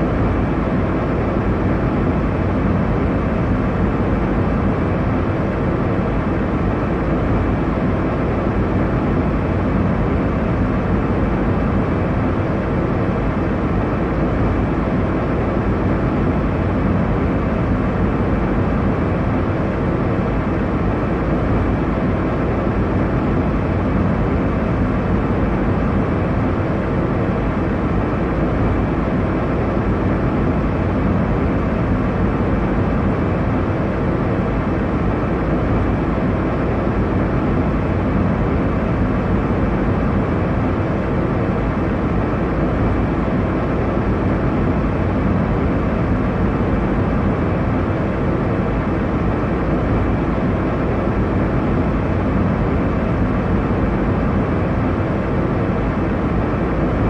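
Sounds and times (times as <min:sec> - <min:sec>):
airliner cabin engine and air rush: 0:00.0 - 0:57.0.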